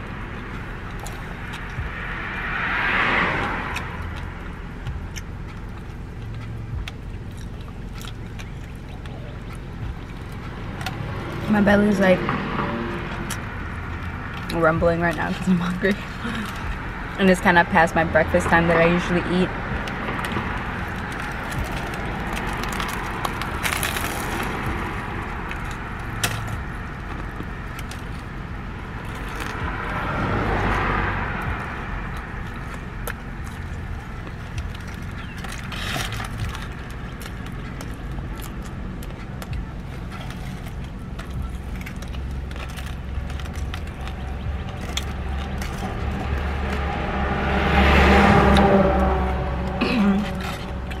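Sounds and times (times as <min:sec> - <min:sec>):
crusty bread crunching: 0:00.0 - 0:11.5, 0:19.5 - 0:51.0
low rumble: 0:00.0 - 0:51.0.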